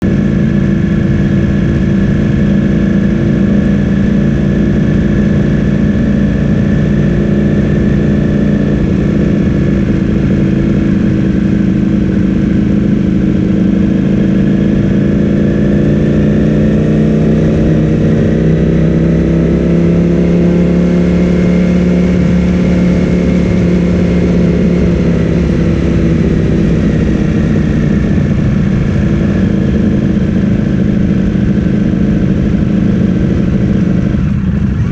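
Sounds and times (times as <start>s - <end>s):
motorcycle engine at low revs: 0.0s - 34.9s.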